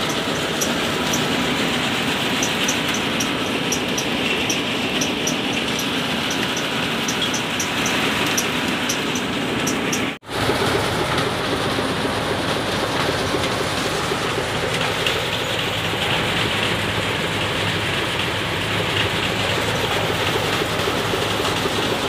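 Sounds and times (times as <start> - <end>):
thresher and tractor engine running: 0.0 - 22.0.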